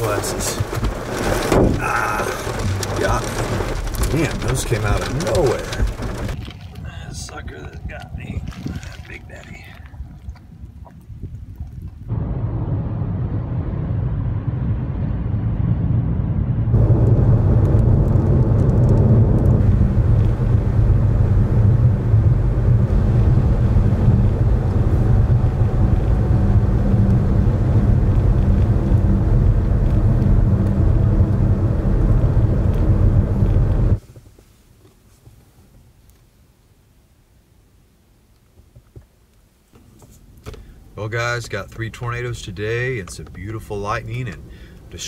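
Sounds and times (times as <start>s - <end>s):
vehicle road and engine rumble: 0.0s - 35.2s, 39.6s - 45.0s.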